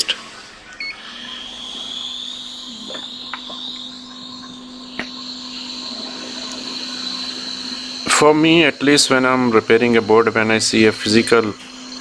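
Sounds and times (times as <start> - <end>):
hot air station blowing: 0.0 - 12.0.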